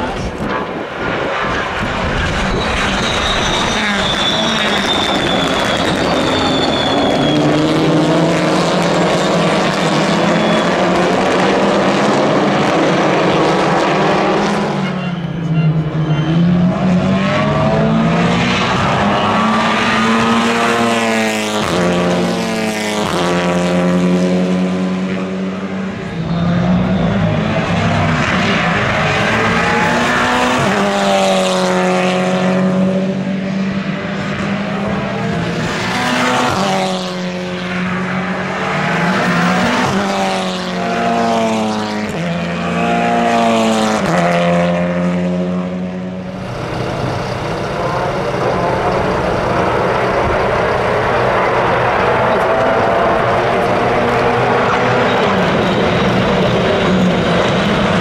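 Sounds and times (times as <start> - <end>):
racing cars passing at speed: 0.0 - 58.0.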